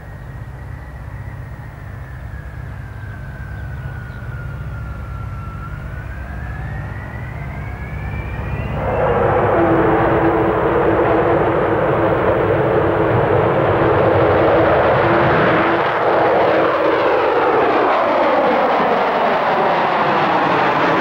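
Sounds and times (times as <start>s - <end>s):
jet engine whine: 0.0s - 21.0s
jet engines roaring: 0.0s - 21.0s.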